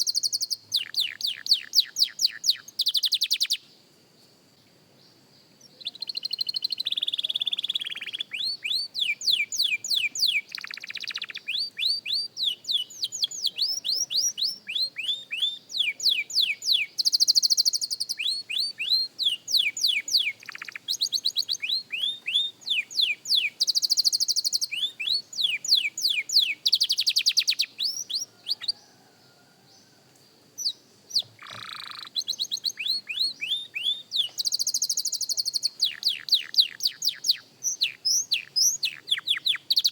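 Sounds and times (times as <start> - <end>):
canary singing: 0.0 - 3.6, 5.6 - 29.1, 30.6 - 39.9.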